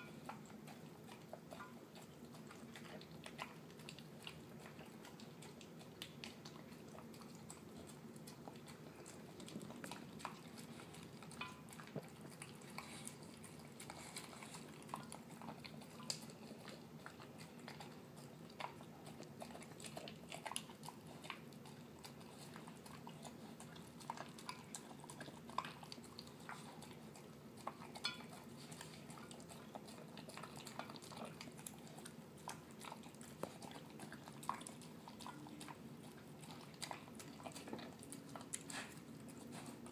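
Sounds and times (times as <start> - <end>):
dog chewing wet food: 0.0 - 39.9.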